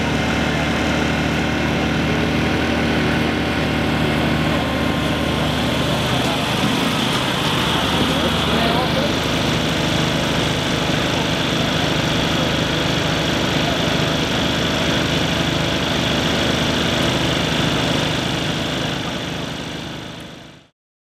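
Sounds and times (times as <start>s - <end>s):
engine idling: 0.0s - 20.7s.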